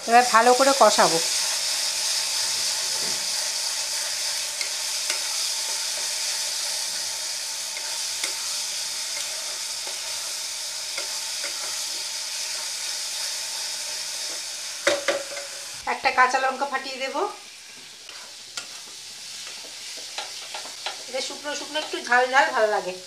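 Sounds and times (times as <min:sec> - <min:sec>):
masala sizzling in oil: 0:00.0 - 0:23.0
spatula stirring and scraping: 0:01.4 - 0:15.8, 0:17.7 - 0:22.2.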